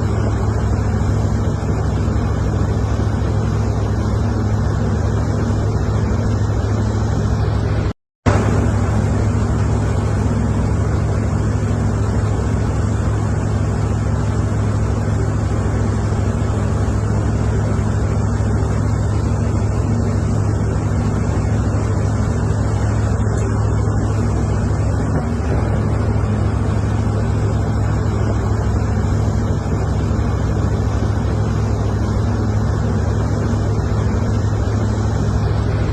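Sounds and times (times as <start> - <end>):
loud low engine drone: 0.0 - 35.9
rushing noise: 1.4 - 14.1, 19.2 - 35.9.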